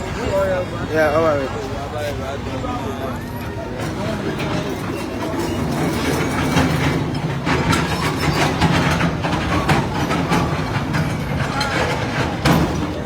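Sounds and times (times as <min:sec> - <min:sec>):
heavy diesel machinery running: 0:00.0 - 0:13.0.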